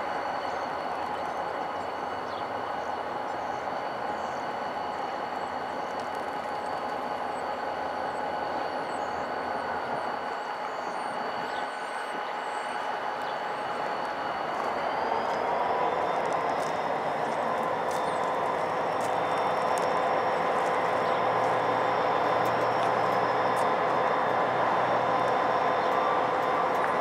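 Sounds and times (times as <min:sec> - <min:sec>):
high whining tones: 0:00.0 - 0:27.0
locomotive engine drone: 0:00.0 - 0:27.0.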